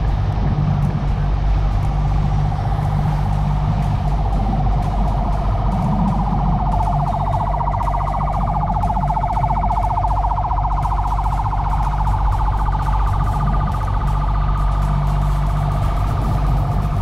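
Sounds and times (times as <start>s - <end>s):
warbling siren: 3.0s - 17.0s.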